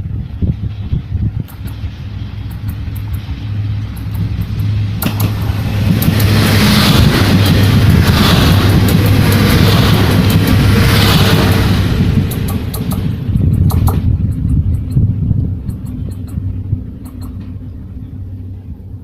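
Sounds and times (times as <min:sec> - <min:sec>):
train passing at speed: 0:00.0 - 0:19.0
wheels clicking over rail joints: 0:01.4 - 0:17.9.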